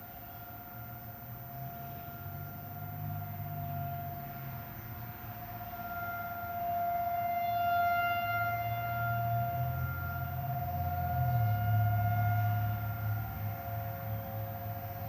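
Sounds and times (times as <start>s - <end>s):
warning sirens steady tone: 0.0s - 15.0s.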